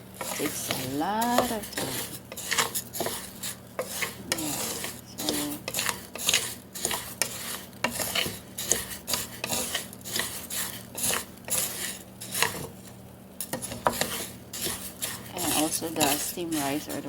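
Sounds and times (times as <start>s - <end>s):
spoon stirring rice in a pan: 0.0s - 17.0s.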